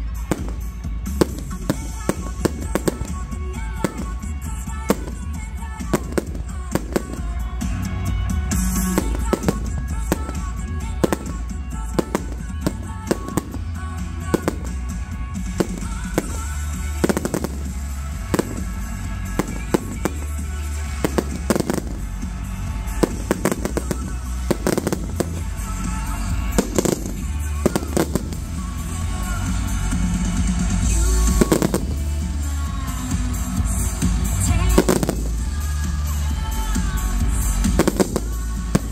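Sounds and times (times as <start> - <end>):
fireworks bangs: 0.0 - 38.9
loud music: 0.0 - 38.9.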